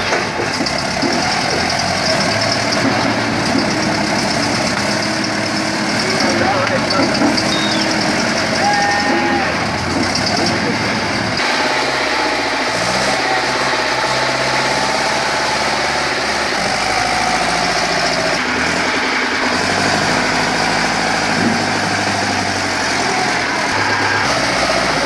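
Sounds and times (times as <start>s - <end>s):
heavy vehicle engine running: 0.0s - 25.0s.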